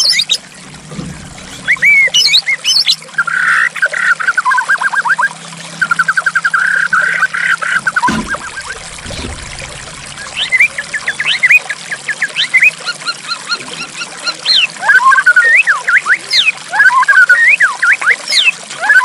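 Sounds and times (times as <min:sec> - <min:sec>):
flowing water: 0:00.0 - 0:19.0.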